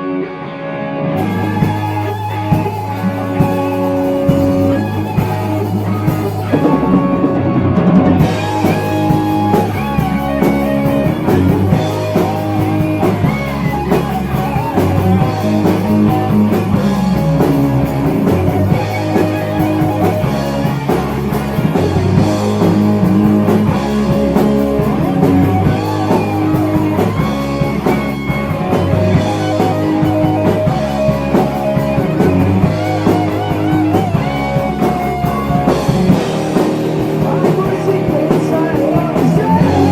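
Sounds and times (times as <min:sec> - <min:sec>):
bass guitar: 0:00.0 - 0:39.9
distorted electric guitar lead: 0:00.0 - 0:39.9
rock drum beat: 0:01.0 - 0:39.9.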